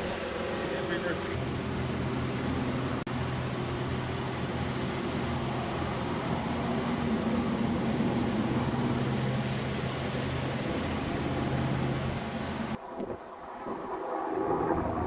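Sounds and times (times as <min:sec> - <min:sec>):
water rushing over a weir: 0:00.0 - 0:13.2
low mechanical hum: 0:00.0 - 0:13.7.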